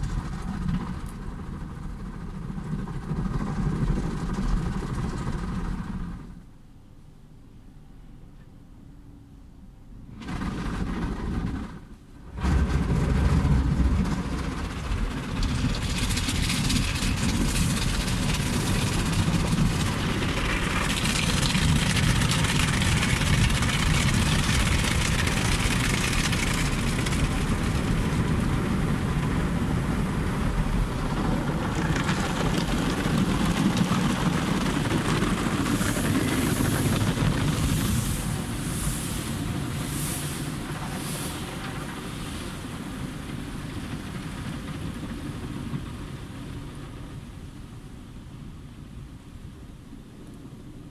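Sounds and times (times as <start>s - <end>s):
car wash rushing noise: 0.0s - 6.8s, 10.0s - 50.9s
low mechanical rumble: 0.0s - 50.9s.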